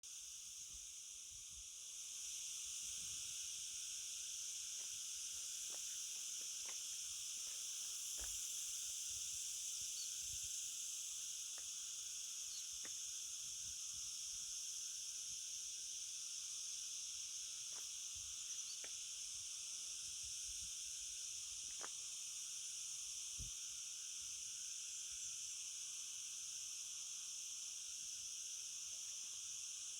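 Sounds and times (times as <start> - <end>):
insects chorus: 0.1 - 29.9.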